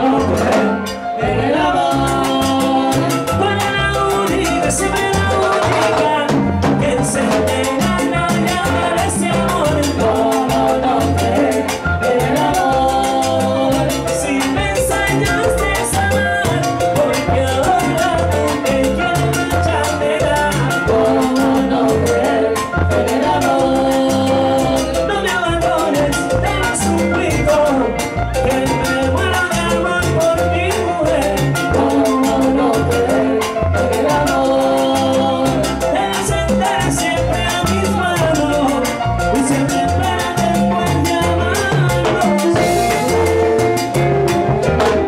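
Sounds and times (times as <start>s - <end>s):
lead and backing vocals: 0.0s - 45.0s
pulsing bass line: 0.0s - 45.0s
salsa band playing: 0.0s - 45.0s.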